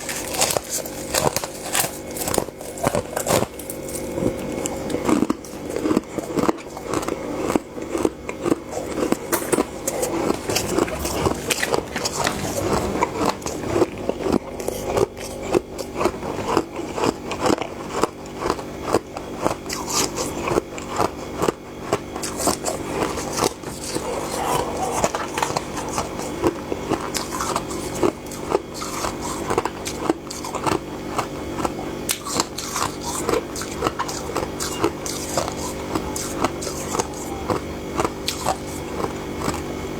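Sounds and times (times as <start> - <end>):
crunching frost being eaten: 0.0 - 39.9
steady low hum: 0.0 - 39.9.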